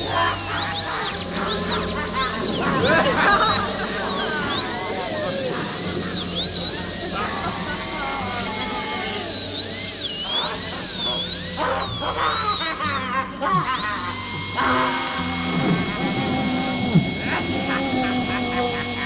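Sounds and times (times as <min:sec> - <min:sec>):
high-pitched sweeping whine: 0:00.0 - 0:19.0
steady low hum: 0:00.0 - 0:19.0.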